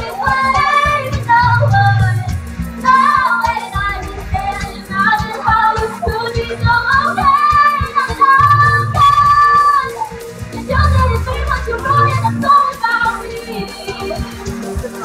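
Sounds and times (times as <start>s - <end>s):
karaoke backing track: 0.0s - 15.0s
woman singing into a microphone: 0.0s - 15.0s.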